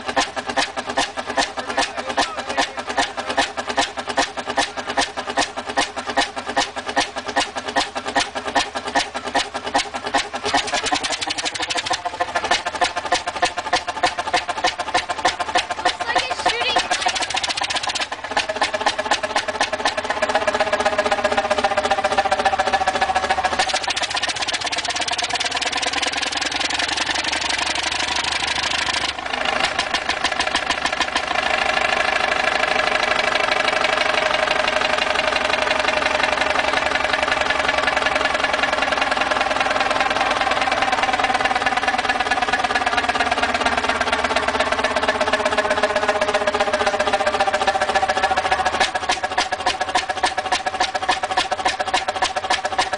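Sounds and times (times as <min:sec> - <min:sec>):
stationary engine running: 0:00.0 - 0:52.9.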